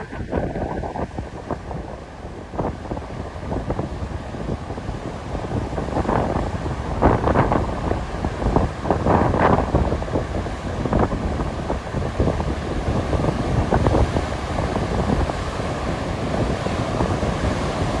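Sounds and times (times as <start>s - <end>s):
sea surf rushing: 0.0s - 18.0s
wind buffeting microphone: 0.0s - 18.0s.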